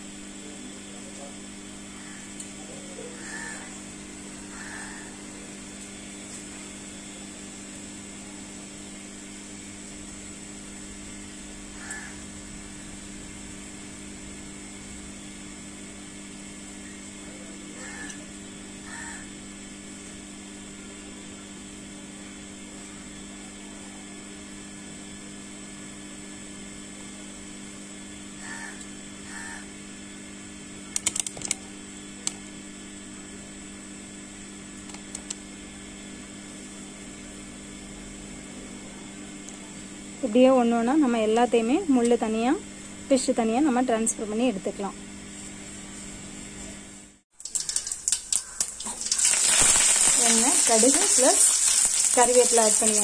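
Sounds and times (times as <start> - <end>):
mechanical hum: 0.0 - 53.0.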